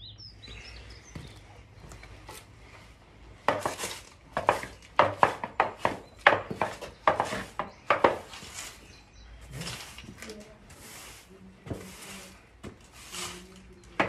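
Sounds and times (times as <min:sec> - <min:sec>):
broom sweeping concrete: 0:02.2 - 0:14.0.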